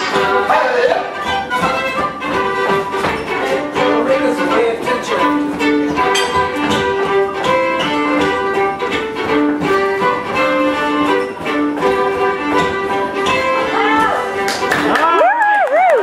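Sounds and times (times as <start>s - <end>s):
fiddle playing dance tune: 0.0s - 16.0s
faint knocks on the beat: 1.2s - 14.0s.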